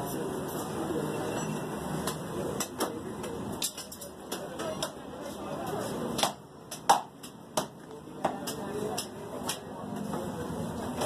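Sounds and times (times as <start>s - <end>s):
chatter of voices: 0.0s - 6.5s, 7.7s - 11.0s.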